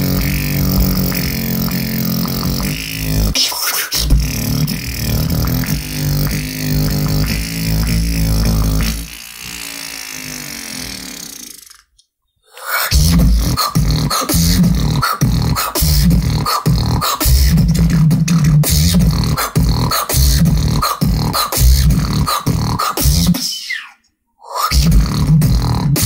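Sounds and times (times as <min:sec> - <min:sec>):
beatboxing vocal percussion: 0:00.0 - 0:09.3, 0:12.5 - 0:26.0.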